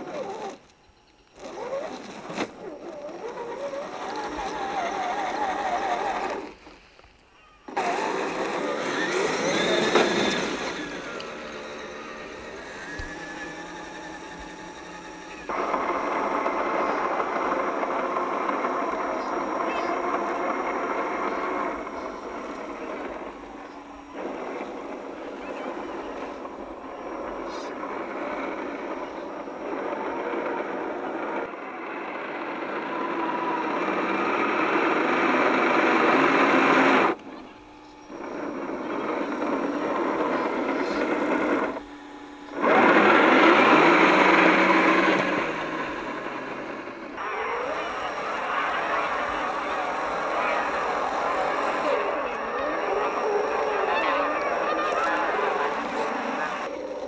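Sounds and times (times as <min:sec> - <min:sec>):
faint high whines: 0:00.0 - 0:57.0
small electric motors whirring: 0:00.0 - 0:57.0.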